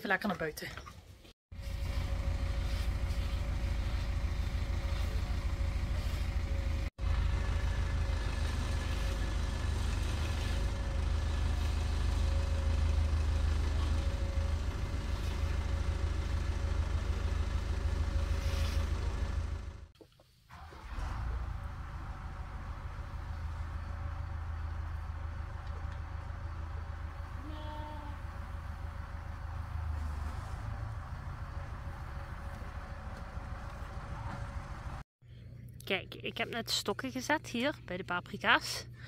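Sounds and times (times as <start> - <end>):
engine pulsing rumble: 1.5 - 19.9, 20.5 - 35.8.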